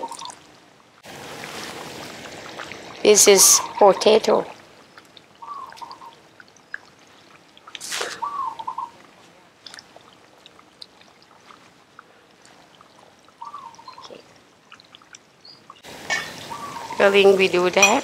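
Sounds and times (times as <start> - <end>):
curry bubbling: 0.0 - 18.0.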